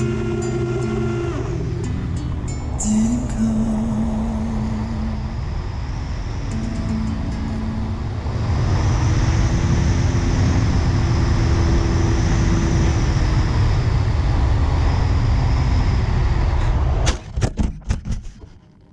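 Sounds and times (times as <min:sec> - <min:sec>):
electric motor and propeller hum: 0:00.0 - 0:17.0
wind rushing over camera: 0:00.0 - 0:18.9.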